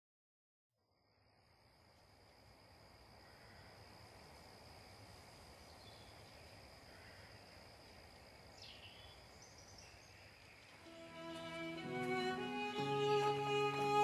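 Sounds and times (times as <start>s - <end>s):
low hiss: 1.4s - 14.0s.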